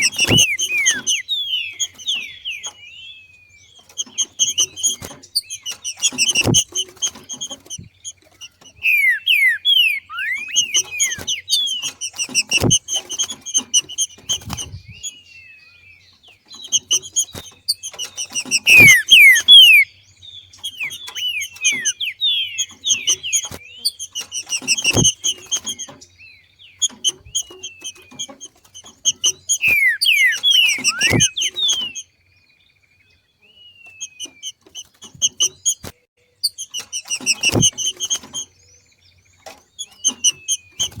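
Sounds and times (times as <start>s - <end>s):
bird chips and whistles: 0.0s - 32.1s, 33.6s - 41.0s.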